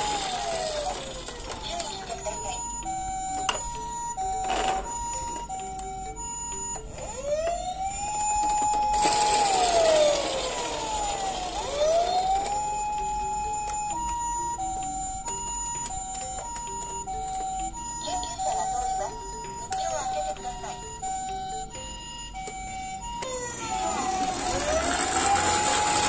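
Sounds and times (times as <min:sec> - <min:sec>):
toy two-tone siren: 0:00.0 - 0:26.0
toy wailing siren: 0:00.0 - 0:26.0.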